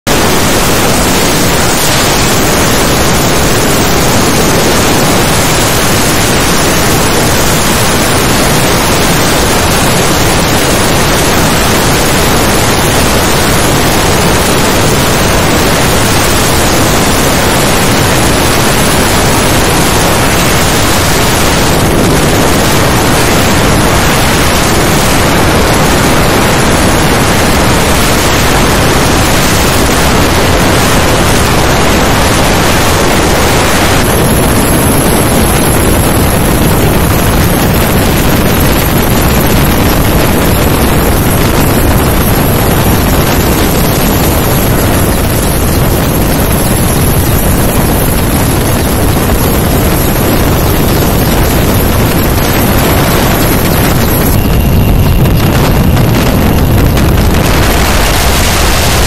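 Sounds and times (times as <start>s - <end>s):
aircraft in flight rushing: 0.1s - 59.0s.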